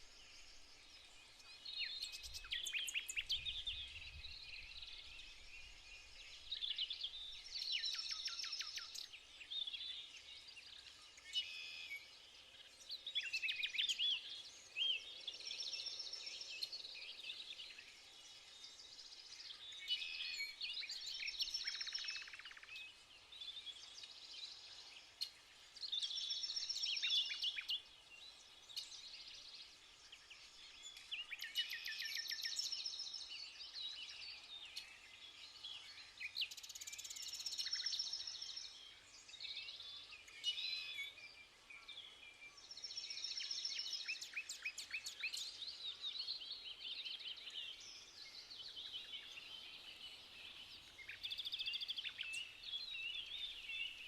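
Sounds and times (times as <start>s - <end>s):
birds chirping and twittering: 0.0s - 54.0s
trilled whistled birdsong: 0.0s - 54.0s.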